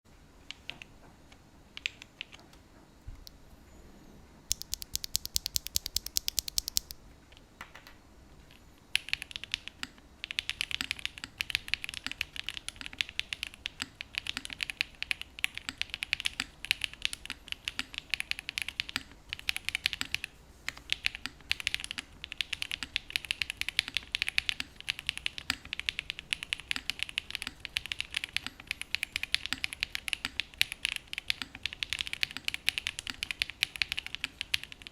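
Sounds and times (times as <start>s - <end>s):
mechanical keyboard typing: 1.8s - 2.4s, 4.5s - 7.0s, 8.9s - 34.9s.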